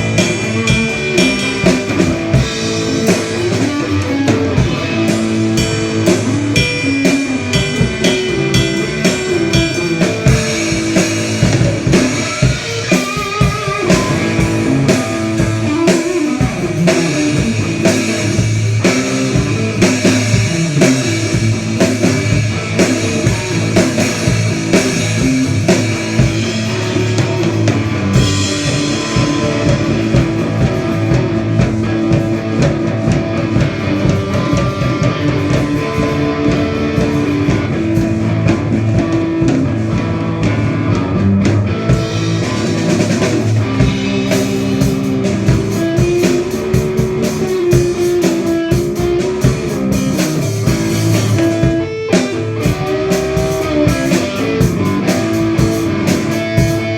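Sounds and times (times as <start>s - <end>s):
drum kit beat: 0.0s - 56.9s
electric guitar: 0.0s - 56.9s.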